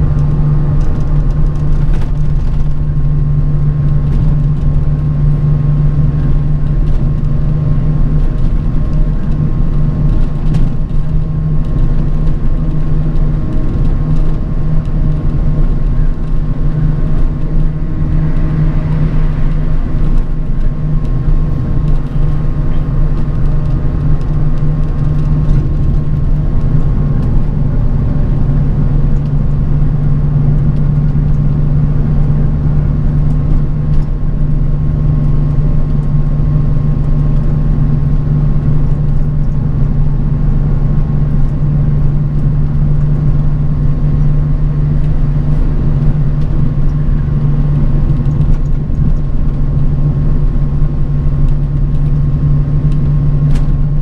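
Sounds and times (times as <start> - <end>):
bus engine drone: 0.0 - 54.0
road rumble: 0.0 - 54.0.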